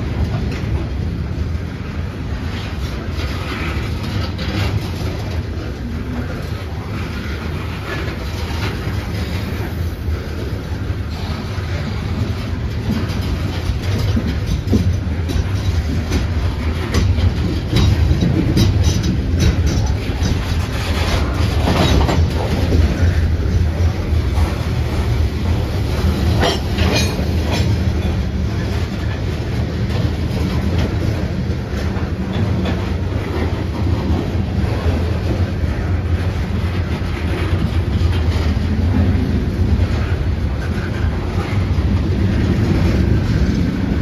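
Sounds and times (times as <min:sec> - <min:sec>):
train cars rumbling: 0:00.0 - 0:44.0
wheels clanking over rail joints: 0:00.0 - 0:44.0.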